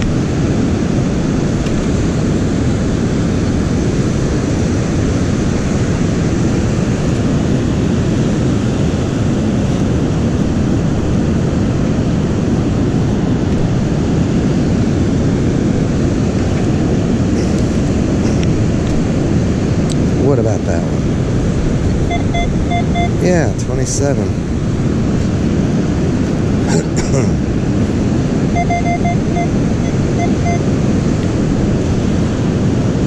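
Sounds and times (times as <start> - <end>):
wind on microphone: 0.0 - 33.0.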